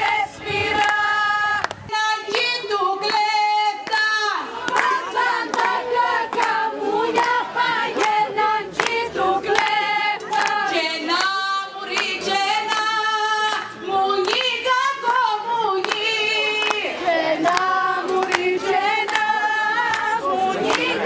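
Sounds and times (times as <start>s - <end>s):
group singing: 0.0s - 21.0s
rhythmic hand-clapping: 0.0s - 21.0s.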